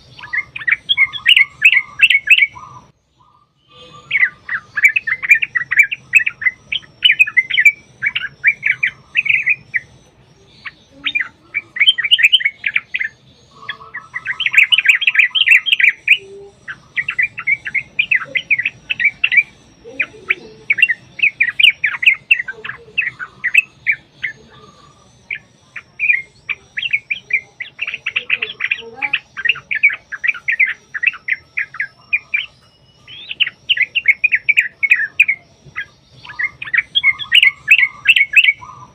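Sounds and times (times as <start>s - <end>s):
bulbuls singing chattering song: 0.0s - 38.9s.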